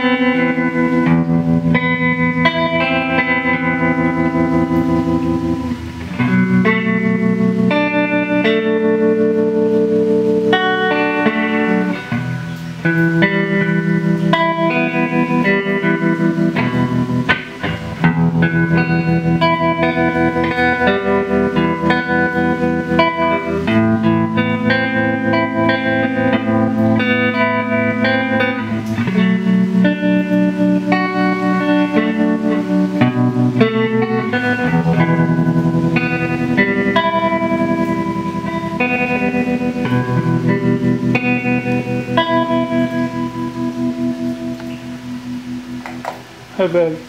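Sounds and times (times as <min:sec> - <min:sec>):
electric guitar with tremolo: 0:00.0 - 0:47.0.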